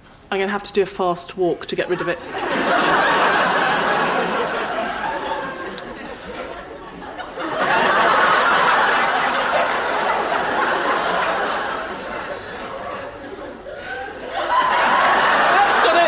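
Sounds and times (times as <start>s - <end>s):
audience laughing: 1.9s - 16.0s.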